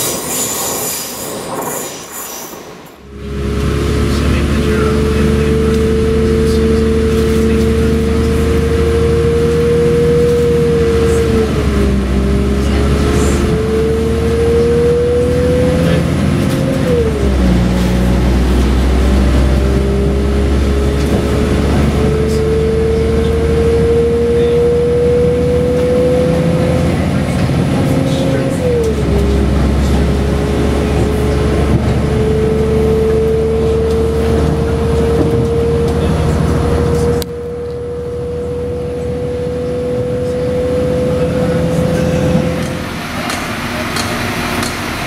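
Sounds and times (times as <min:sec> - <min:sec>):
train engine and transmission whine: 0:00.0 - 0:45.0
low rumble of engine and wheels: 0:02.6 - 0:45.0.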